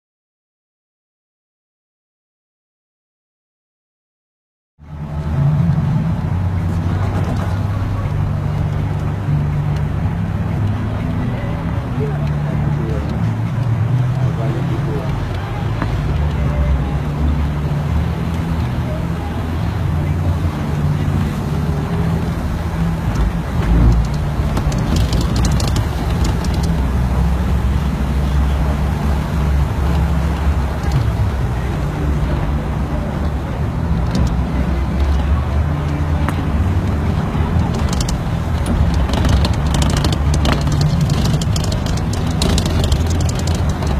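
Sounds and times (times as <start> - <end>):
continuous noisy hiss: 4.8 - 43.9
vehicle engine humming: 4.8 - 43.9.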